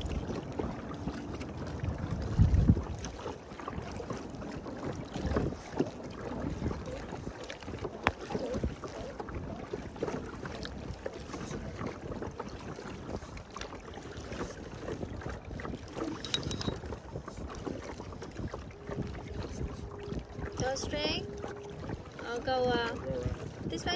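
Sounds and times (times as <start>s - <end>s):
kayak paddles splashing water: 0.0s - 23.9s
wind buffeting microphone: 0.0s - 23.9s.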